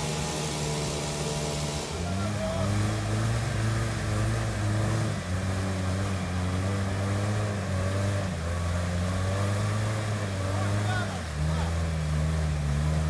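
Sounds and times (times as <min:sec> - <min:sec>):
atv engine running hard: 0:00.0 - 0:13.0
tyres churning mud and water: 0:00.0 - 0:13.0.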